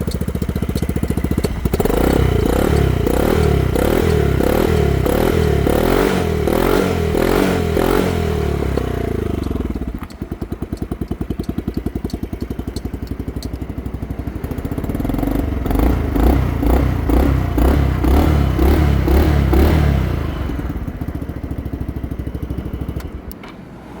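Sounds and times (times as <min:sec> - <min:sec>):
scooter engine revving and idling: 0:00.0 - 0:23.4.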